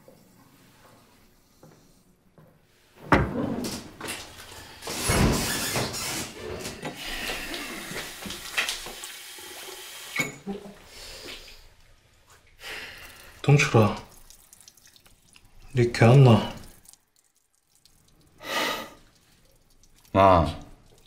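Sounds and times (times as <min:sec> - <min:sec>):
tap water running into basin: 0:04.0 - 0:21.0.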